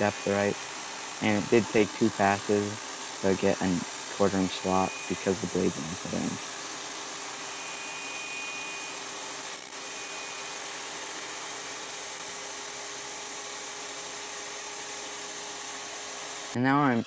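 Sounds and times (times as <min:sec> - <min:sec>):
table saw cutting plywood: 0:00.0 - 0:17.0.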